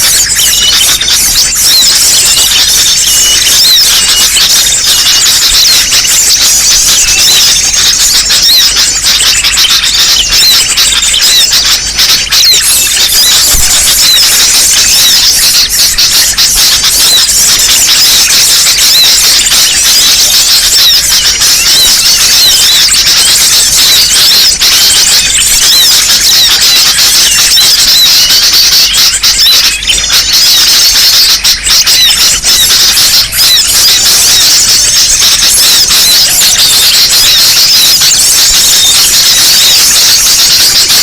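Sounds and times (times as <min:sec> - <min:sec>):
flock of small birds chirping: 0:00.0 - 0:41.0.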